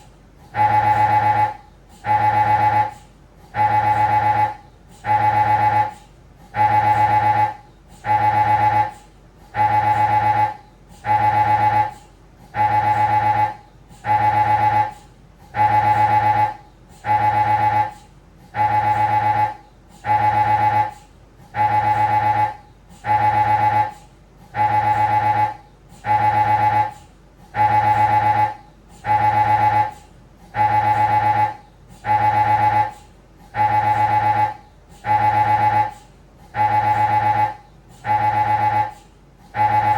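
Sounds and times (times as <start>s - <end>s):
mri scanner buzzing: 0.0s - 39.9s.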